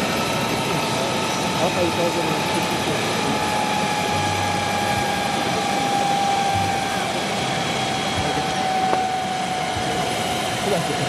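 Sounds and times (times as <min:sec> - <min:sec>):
helicopter turbine engines running: 0:00.0 - 0:11.0.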